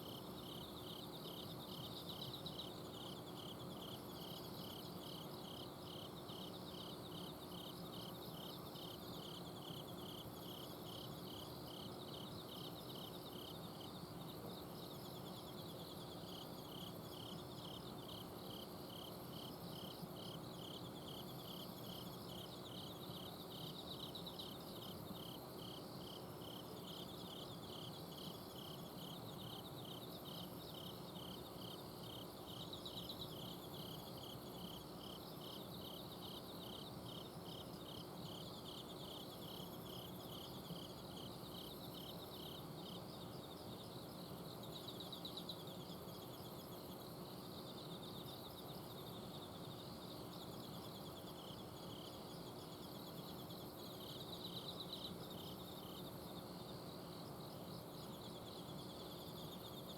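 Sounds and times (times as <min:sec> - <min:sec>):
cricket chirping evenly: 0:00.0 - 0:59.9
crickets trilling faintly: 0:00.0 - 0:59.9.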